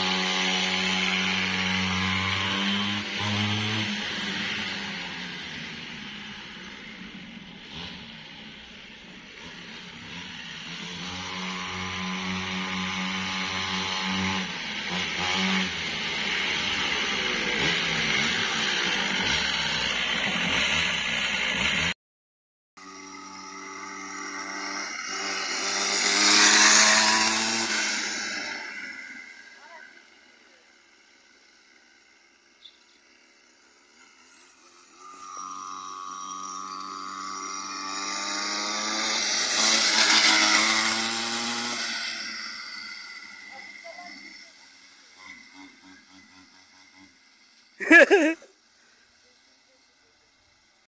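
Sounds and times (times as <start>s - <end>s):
small two-stroke engine revving: 0.0s - 22.0s, 22.8s - 50.9s.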